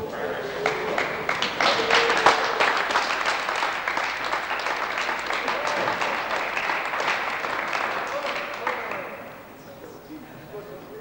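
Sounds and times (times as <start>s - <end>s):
voices: 0.0s - 3.9s, 5.2s - 11.0s
group applauding: 0.0s - 9.6s.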